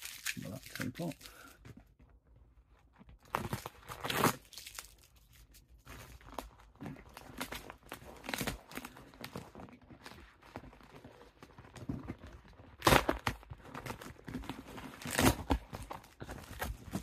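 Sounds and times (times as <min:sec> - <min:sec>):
plastic bag crinkling and tearing: 0:00.0 - 0:01.6, 0:03.2 - 0:17.0.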